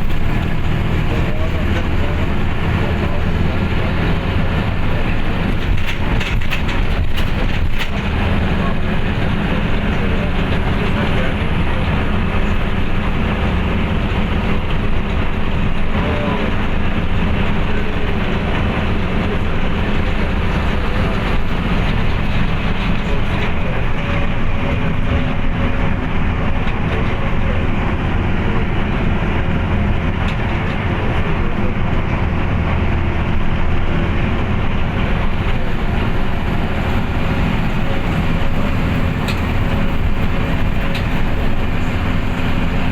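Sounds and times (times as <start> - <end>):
road and wind noise: 0.0 - 42.9
truck engine drone: 0.0 - 42.9.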